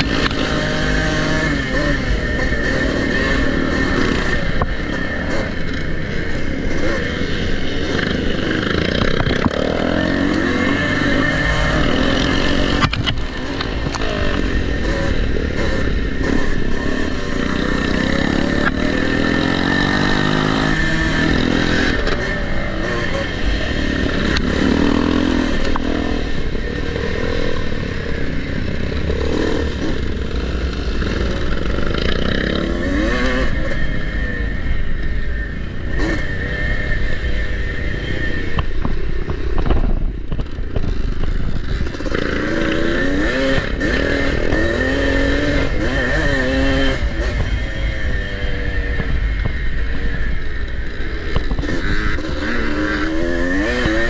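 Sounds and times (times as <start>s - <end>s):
dirt bike engine revving: 0.0s - 54.0s
other dirt bikes running: 0.0s - 54.0s.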